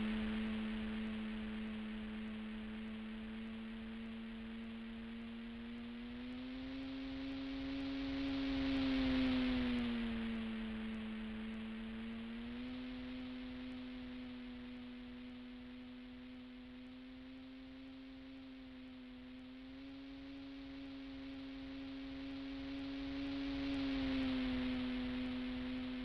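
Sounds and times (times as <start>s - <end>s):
model plane motor droning: 0.0s - 26.0s.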